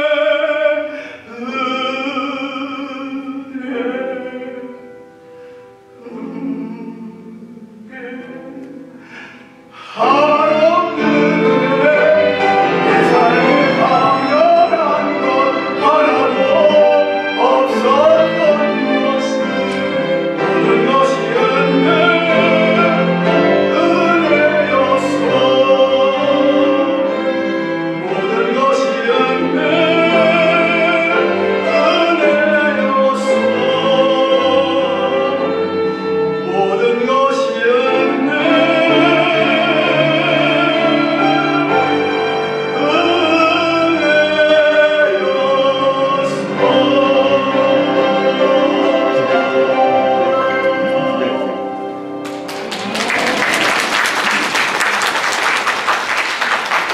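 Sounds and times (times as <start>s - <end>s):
man singing a slow hymn: 0.0s - 5.1s, 6.0s - 35.8s, 36.4s - 51.8s
string ensemble: 0.0s - 56.9s.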